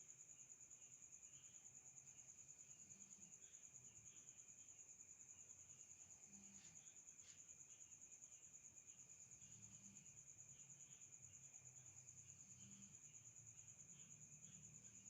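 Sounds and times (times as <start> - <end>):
cricket trill: 0.0 - 15.0
low background hum: 0.7 - 15.0.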